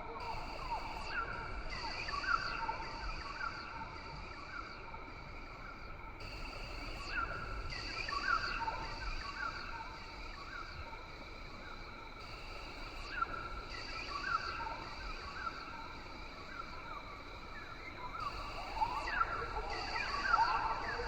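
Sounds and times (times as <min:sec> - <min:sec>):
insect drone: 0:00.2 - 0:21.0.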